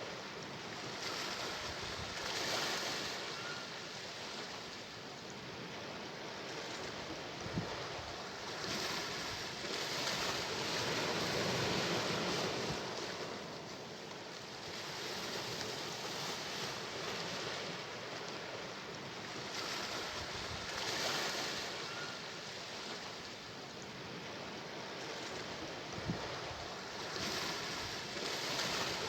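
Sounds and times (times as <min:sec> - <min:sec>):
sea waves washing onto shore: 0:00.0 - 0:29.0.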